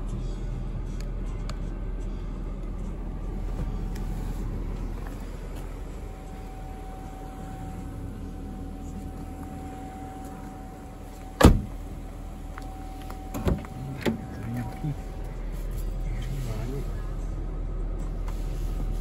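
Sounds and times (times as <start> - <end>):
car engine idling: 0.0 - 19.0
faint steady whine: 0.0 - 19.0.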